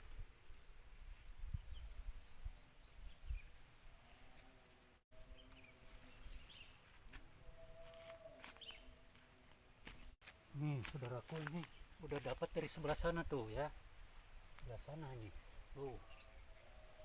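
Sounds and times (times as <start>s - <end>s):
high-pitched insect buzz: 0.0s - 17.0s.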